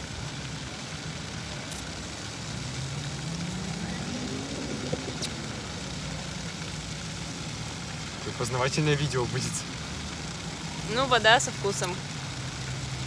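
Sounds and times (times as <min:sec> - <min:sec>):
background traffic: 0:00.0 - 0:13.0
vehicle engine passing: 0:01.3 - 0:13.0.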